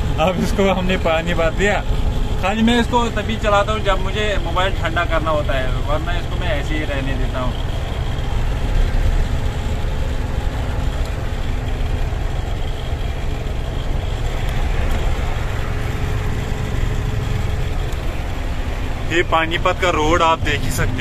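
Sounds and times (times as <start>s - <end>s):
road and wind noise: 0.0s - 21.0s
truck engine rumble: 0.0s - 21.0s.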